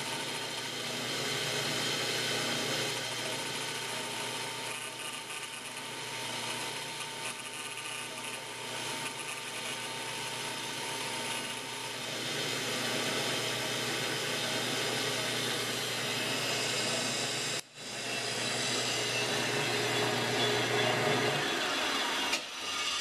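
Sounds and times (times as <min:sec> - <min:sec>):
grinder grinding metal: 0:00.0 - 0:23.0.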